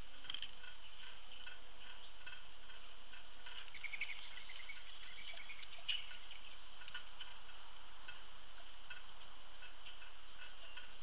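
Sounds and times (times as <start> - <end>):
bird calls: 0.0 - 11.0
quiet bird chirps: 0.0 - 11.0.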